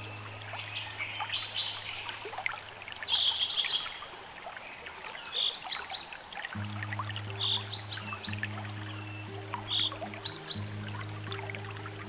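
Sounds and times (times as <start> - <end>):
birds chirping and trilling: 0.0 - 12.0
trickle of running water: 0.0 - 12.0.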